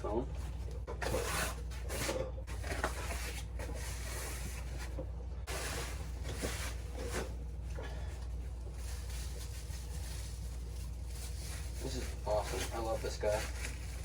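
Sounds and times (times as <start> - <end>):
foam and fabric rustling: 0.3 - 14.0.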